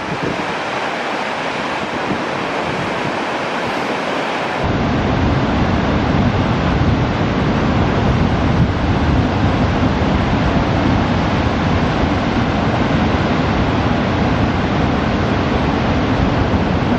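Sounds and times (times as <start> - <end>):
ocean surf breaking: 0.0 - 16.9.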